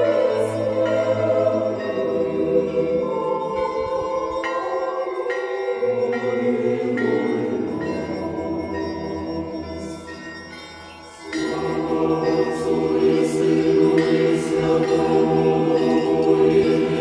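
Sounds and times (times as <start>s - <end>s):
choir singing a chant: 0.0s - 10.2s, 11.2s - 17.0s
church bells ringing: 0.0s - 17.0s.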